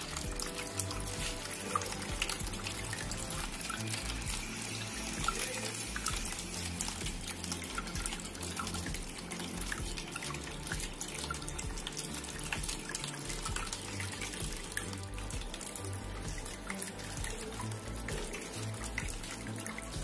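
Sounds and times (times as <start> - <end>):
fountain water trickling and splashing: 0.0 - 20.0.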